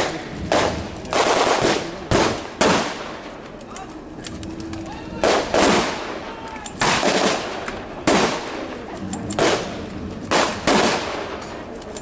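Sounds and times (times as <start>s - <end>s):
gunshots with echo: 0.0s - 3.3s, 5.2s - 11.7s.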